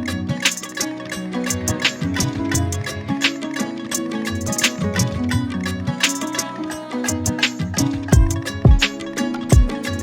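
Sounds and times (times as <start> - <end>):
plucked-string instrumental music: 0.0 - 10.0.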